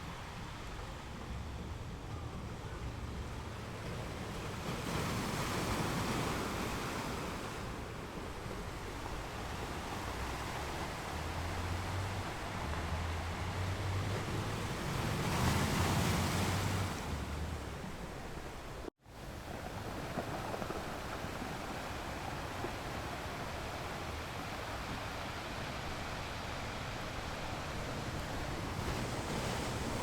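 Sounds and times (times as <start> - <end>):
ocean surf on a beach: 0.0 - 30.0.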